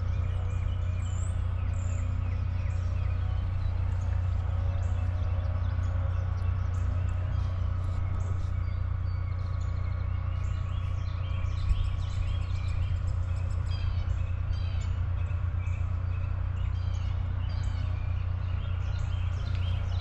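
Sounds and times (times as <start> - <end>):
songbirds chirping: 0.0 - 20.0
steady low rumble: 0.0 - 20.0.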